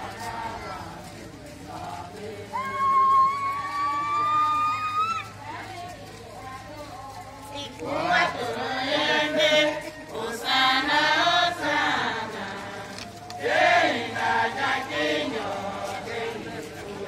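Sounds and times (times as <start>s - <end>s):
group singing a hymn: 0.0s - 4.0s, 5.5s - 17.0s.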